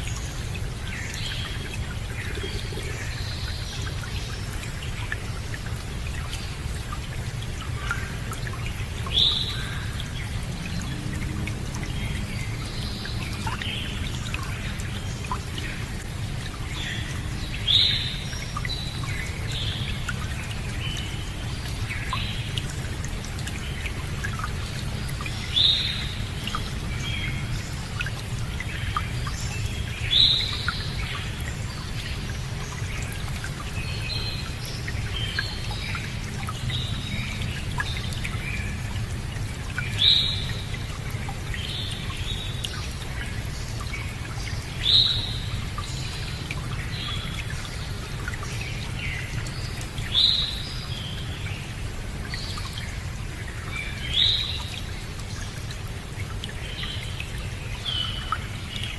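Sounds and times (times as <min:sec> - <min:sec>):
running water: 0:00.0 - 0:58.9.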